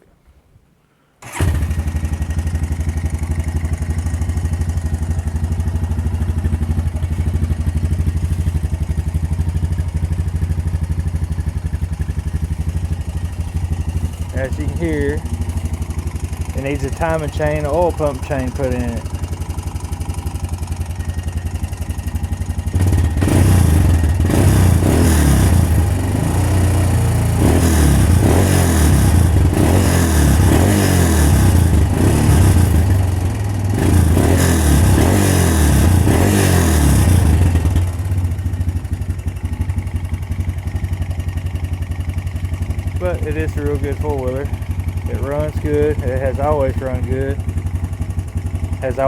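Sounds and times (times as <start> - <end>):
atv engine idling and revving: 1.2 - 49.0
engine clatter: 1.2 - 49.0.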